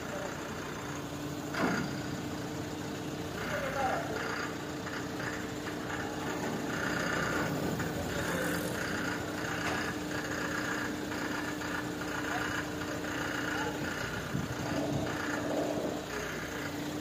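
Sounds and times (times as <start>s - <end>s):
crane diesel engine humming: 0.0s - 17.0s.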